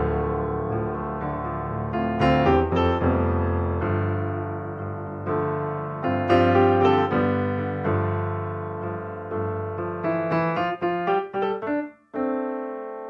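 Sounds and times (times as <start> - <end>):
piano notes and chords: 0.0 - 13.0.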